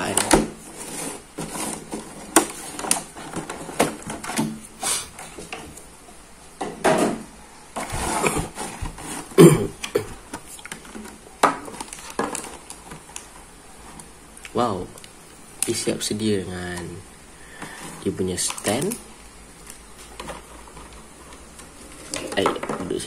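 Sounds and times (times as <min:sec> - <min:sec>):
plastic packaging crinkling: 0:00.0 - 0:05.5, 0:07.8 - 0:17.0, 0:17.6 - 0:23.0.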